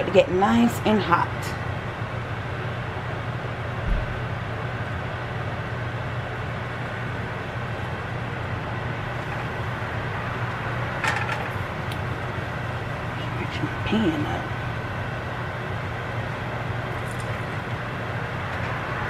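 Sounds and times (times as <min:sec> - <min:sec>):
range hood fan humming: 0:00.0 - 0:19.0.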